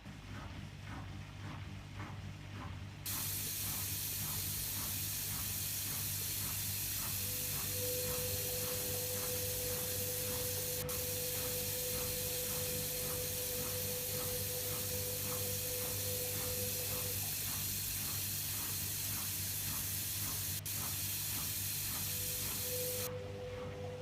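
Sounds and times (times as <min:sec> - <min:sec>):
washing machine low hum: 0:00.0 - 0:24.0
faint regular pulsing: 0:00.4 - 0:24.0
water flowing into washing machine: 0:03.1 - 0:24.0.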